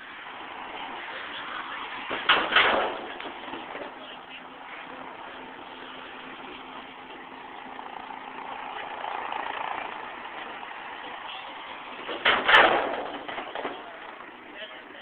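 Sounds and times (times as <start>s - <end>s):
engine and traffic noise: 0.0s - 15.0s.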